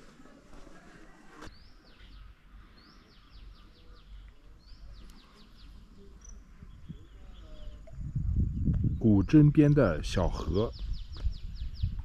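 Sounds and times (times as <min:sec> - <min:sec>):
songbird singing: 0:01.5 - 0:12.0.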